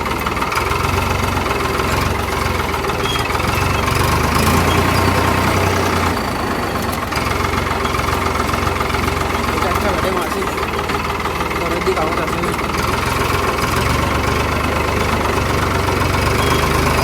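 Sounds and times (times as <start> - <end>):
tractor diesel engine rumbling: 0.0 - 17.0.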